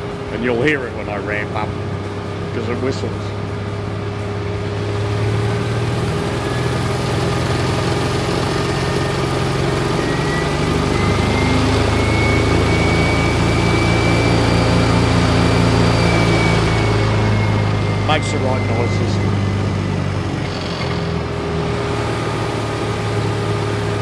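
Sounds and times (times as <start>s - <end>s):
engine humming under load: 0.0s - 24.0s
generator high whistle: 4.3s - 24.0s.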